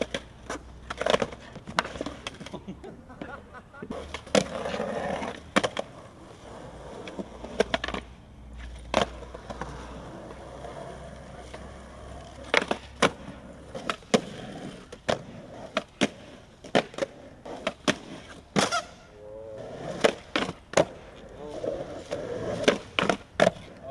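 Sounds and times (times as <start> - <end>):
skateboard clacks: 0.0 - 23.9
skateboard wheels rolling: 0.0 - 23.9.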